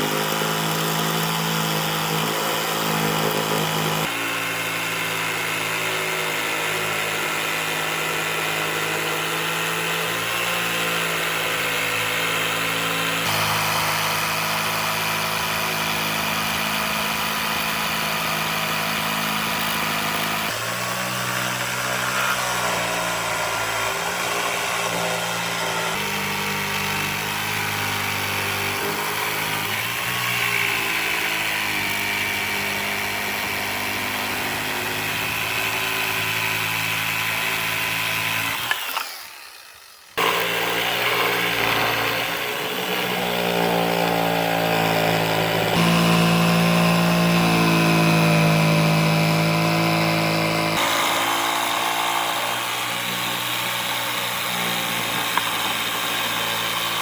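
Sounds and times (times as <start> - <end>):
woodworking power tools running: 0.0 - 57.0.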